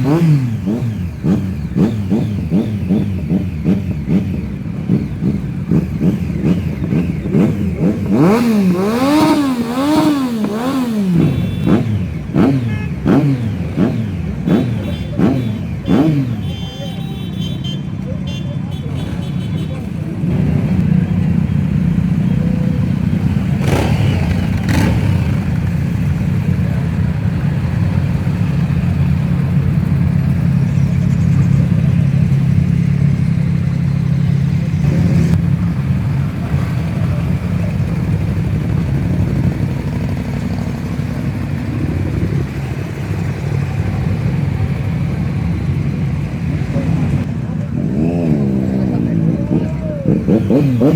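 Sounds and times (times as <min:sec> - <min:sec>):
motorcycle engines running: 0:00.0 - 0:50.9.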